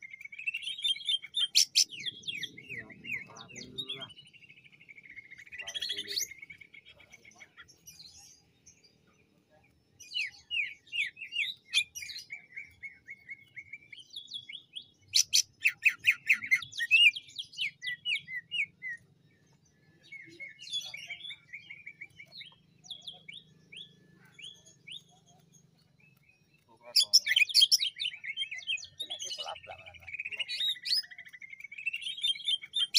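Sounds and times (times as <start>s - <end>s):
bird singing sharp repeated notes: 0.0s - 32.9s.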